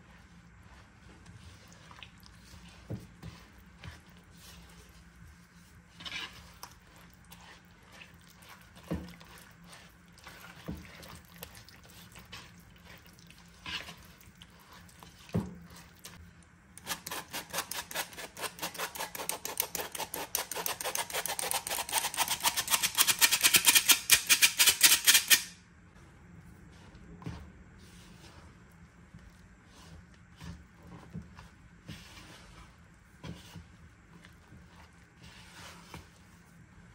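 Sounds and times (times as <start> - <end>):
spatula stirring in a bowl: 0.0 - 23.1, 25.9 - 36.9.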